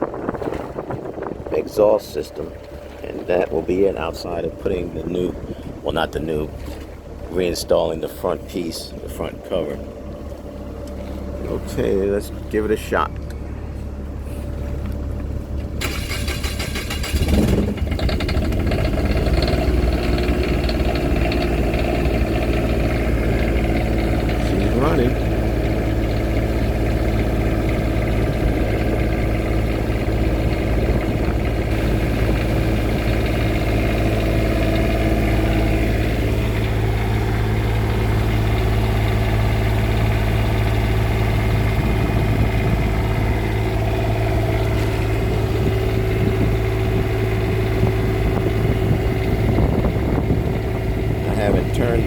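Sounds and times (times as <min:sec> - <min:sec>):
diesel generator engine running: 0:00.0 - 0:52.0.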